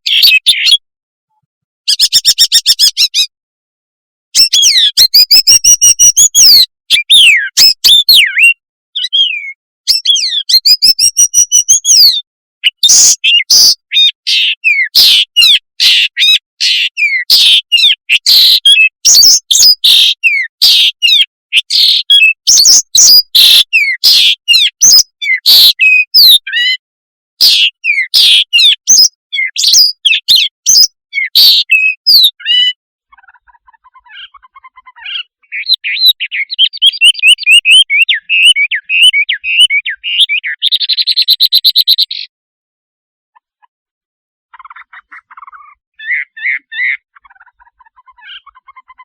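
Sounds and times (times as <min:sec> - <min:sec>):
bird twittering song: 0:00.0 - 0:00.8, 0:01.9 - 0:03.3, 0:04.4 - 0:26.8, 0:27.4 - 0:42.3, 0:44.5 - 0:49.0.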